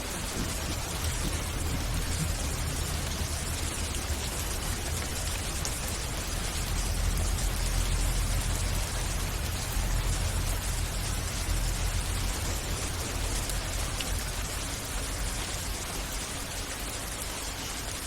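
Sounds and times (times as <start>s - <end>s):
low thunder rumble: 0.0s - 16.5s
heavy rain: 0.0s - 18.0s.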